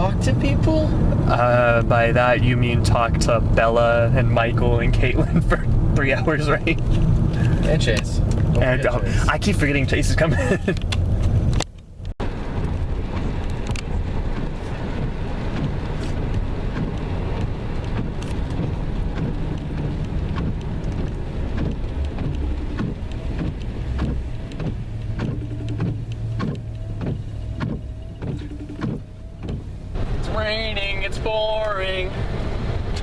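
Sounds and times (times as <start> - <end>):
raindrops tapping on car: 0.0 - 33.0
road rumble in car cabin: 0.0 - 33.0.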